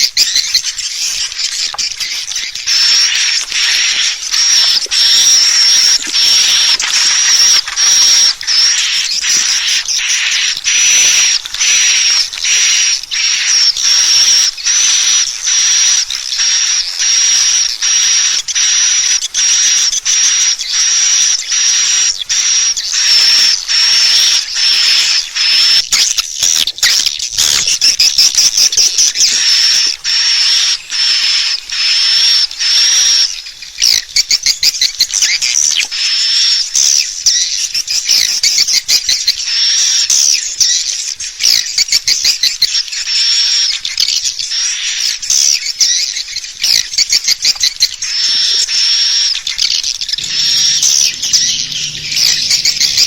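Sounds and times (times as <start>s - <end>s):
swiftlet call high chirping: 0.0s - 53.0s.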